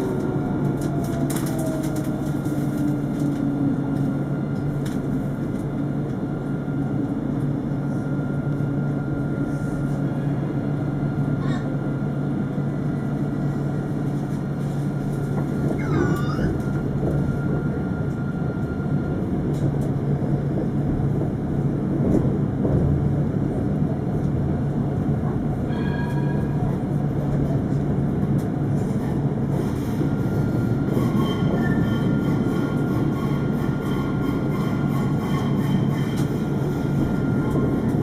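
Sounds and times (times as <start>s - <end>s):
tram rolling rumble: 0.0s - 38.0s.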